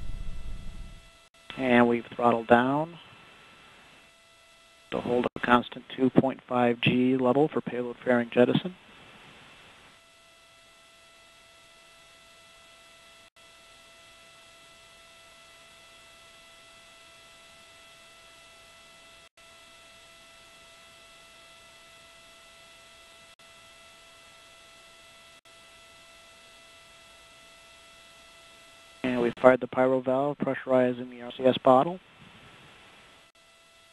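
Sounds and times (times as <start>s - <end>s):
high electrical whine: 0.0s - 33.9s.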